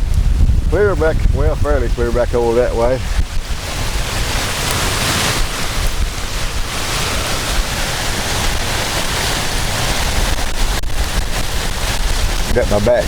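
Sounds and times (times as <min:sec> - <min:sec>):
strong wind buffeting microphone: 0:00.0 - 0:13.0
wind-driven rain hiss: 0:00.0 - 0:13.0.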